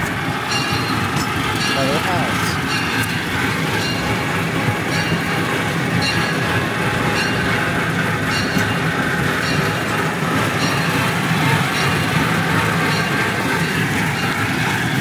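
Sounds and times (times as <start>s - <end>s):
light track clicks: 0.0s - 15.0s
train ride rumbling on track: 0.0s - 15.0s.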